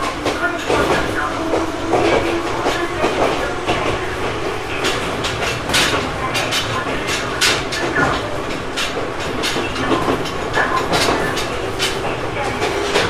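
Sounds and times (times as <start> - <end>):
wheels clacking over rail joints: 0.0 - 13.0.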